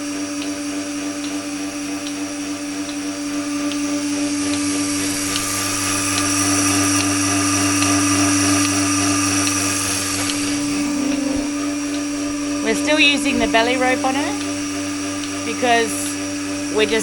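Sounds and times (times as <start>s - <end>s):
vacuum pump hum: 0.0s - 17.0s.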